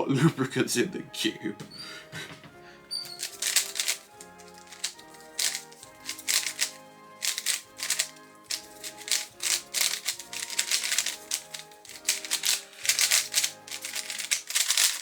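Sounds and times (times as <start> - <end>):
background music: 0.0 - 15.0
puzzle cube plastic clicks: 2.9 - 15.0.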